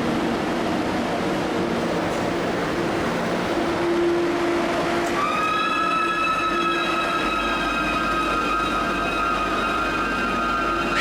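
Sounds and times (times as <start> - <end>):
train running hum: 0.0 - 11.0.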